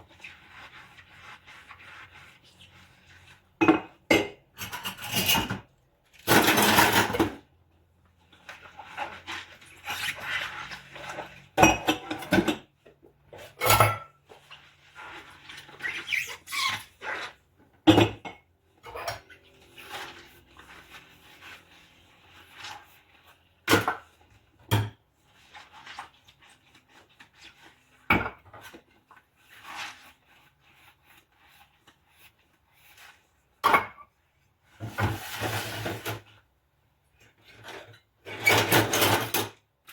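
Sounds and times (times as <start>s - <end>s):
dishes scrubbing: 0.0s - 7.4s, 8.3s - 34.1s, 34.7s - 36.3s.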